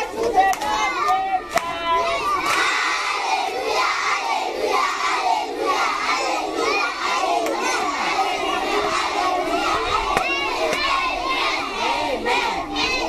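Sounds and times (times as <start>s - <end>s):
crowd of children talking: 0.0s - 13.0s.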